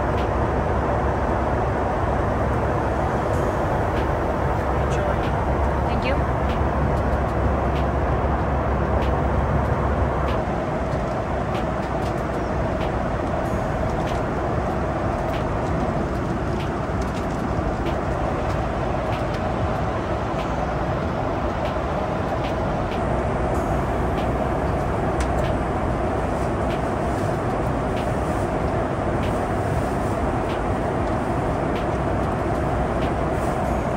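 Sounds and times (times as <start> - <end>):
airliner cabin engine rush: 0.0 - 33.9.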